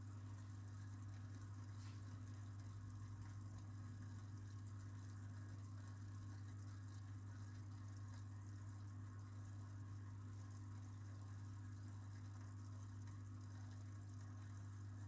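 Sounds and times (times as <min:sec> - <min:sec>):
aquarium equipment humming: 0:00.0 - 0:15.0
water trickling: 0:00.0 - 0:15.0.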